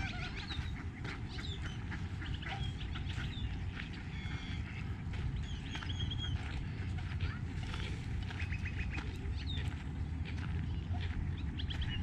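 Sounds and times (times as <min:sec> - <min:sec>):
ducks quacking: 0:00.0 - 0:12.0
small birds chirping: 0:00.0 - 0:12.0
steady low rumble: 0:00.0 - 0:12.0.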